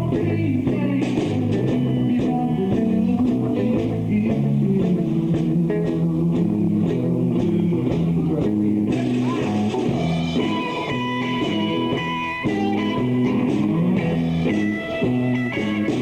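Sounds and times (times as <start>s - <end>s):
blues-rock band playing: 0.0s - 16.0s
lead electric guitar line: 0.0s - 16.0s.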